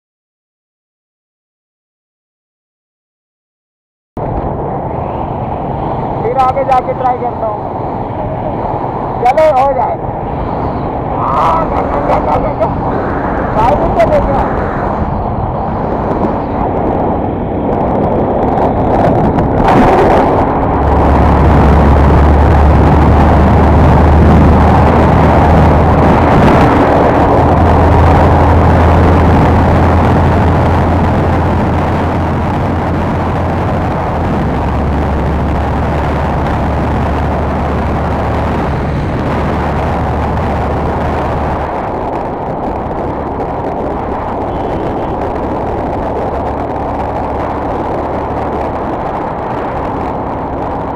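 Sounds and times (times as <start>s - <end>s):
wind rushing over microphone: 4.2s - 50.9s.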